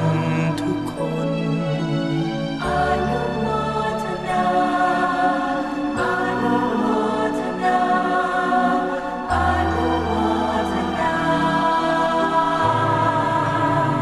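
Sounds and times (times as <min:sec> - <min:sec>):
slow music of long held chords: 0:00.0 - 0:14.0.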